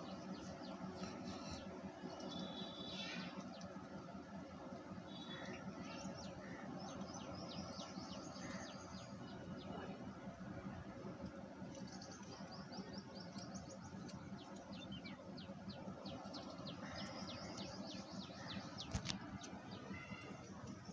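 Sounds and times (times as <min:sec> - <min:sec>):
small birds chirping: 0:00.0 - 0:10.2, 0:11.3 - 0:20.9
steady low hum: 0:00.0 - 0:20.9.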